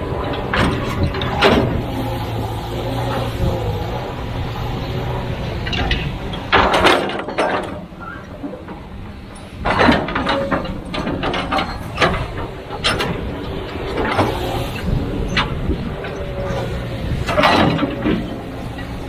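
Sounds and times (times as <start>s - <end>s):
excavator diesel engine running: 0.0s - 19.0s
mechanical clanks and scrapes: 0.0s - 19.0s.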